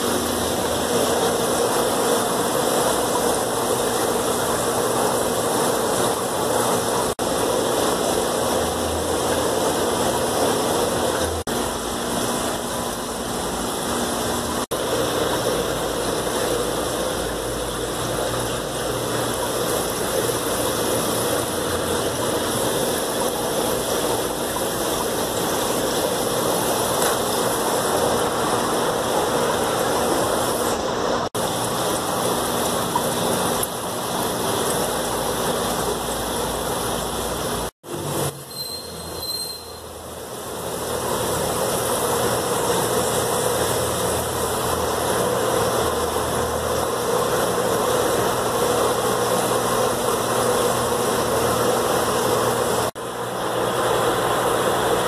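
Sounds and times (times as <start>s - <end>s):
low pump hum: 0.0s - 38.2s, 39.8s - 55.0s
water rushing: 0.0s - 55.0s.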